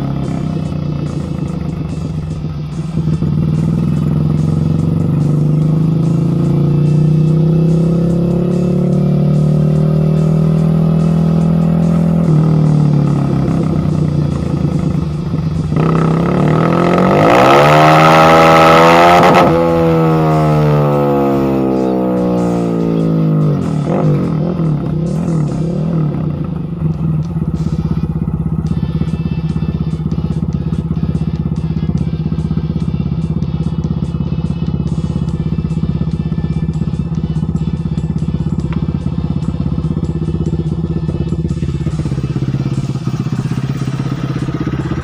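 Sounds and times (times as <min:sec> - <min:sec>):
motorcycle engine running loud: 0:00.0 - 0:45.0.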